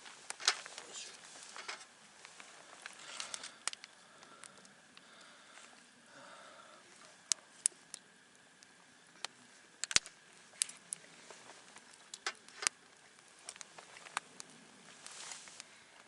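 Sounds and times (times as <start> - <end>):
campfire crackling: 0.0 - 16.0
faint hiss: 0.0 - 16.0.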